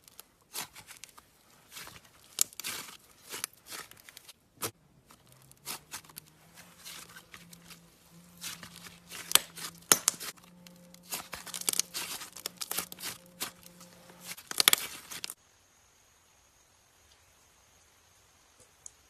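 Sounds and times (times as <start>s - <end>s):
slime crackling and popping: 0.0s - 15.4s.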